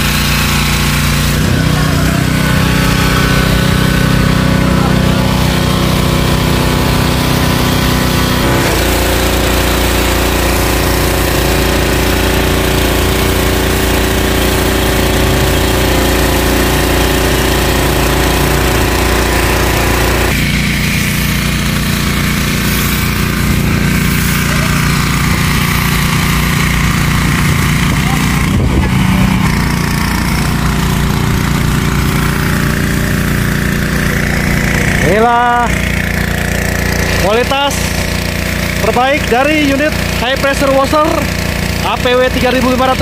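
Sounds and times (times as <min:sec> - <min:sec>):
petrol engine running: 0:00.0 - 0:43.0.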